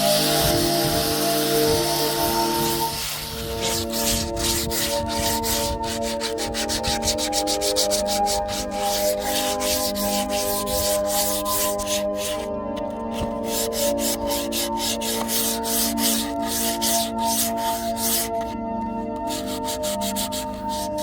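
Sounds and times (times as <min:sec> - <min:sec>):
sandpaper rubbing on wood: 0:00.0 - 0:12.5, 0:13.1 - 0:18.6, 0:19.2 - 0:21.0
background music: 0:00.0 - 0:21.0.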